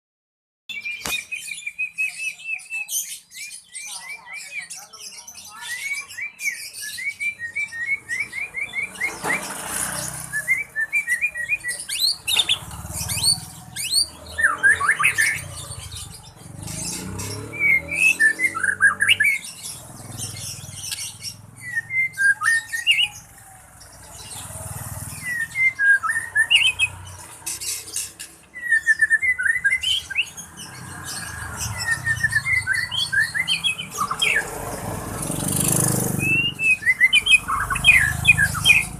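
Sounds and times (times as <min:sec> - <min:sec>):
bird chirping and trilling: 0:00.7 - 0:38.9.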